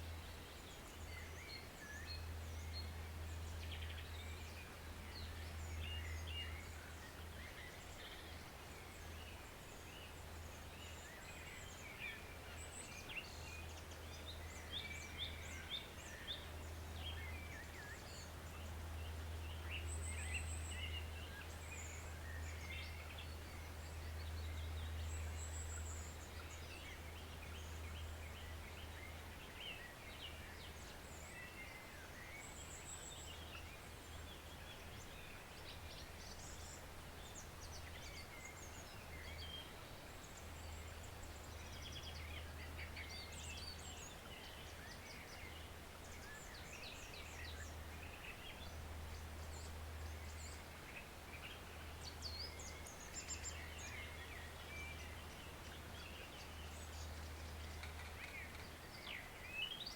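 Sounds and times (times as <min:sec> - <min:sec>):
woodland stream rushing: 0:00.0 - 0:59.9.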